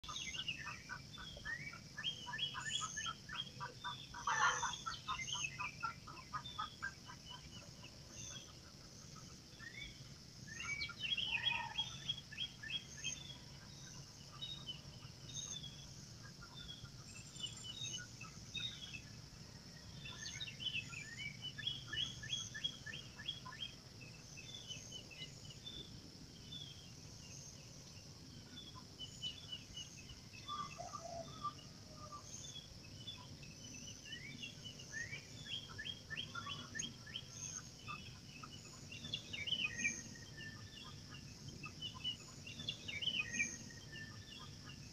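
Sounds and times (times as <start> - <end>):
birds chirping and trilling: 0.0 - 44.9.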